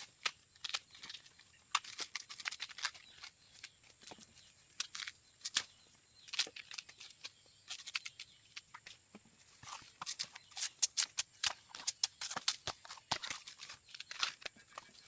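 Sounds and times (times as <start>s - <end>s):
bamboo husk tearing and snapping: 0.0s - 15.0s.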